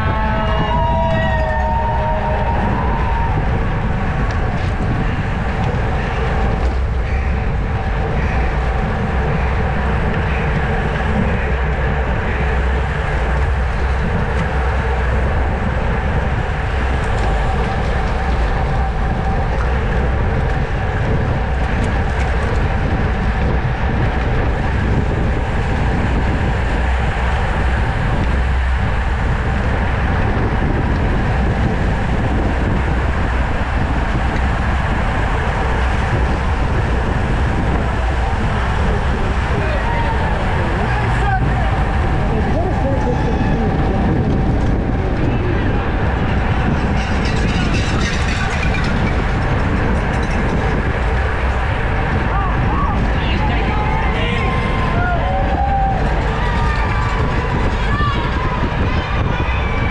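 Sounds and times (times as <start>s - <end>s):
bike tyres and drivetrain hum: 0.0s - 59.9s
wind rumble on microphone: 0.0s - 59.9s.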